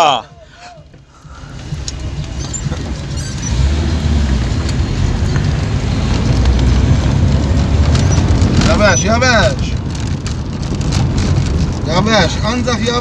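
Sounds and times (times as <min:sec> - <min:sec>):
car rumble on dirt road: 0:00.2 - 0:13.0.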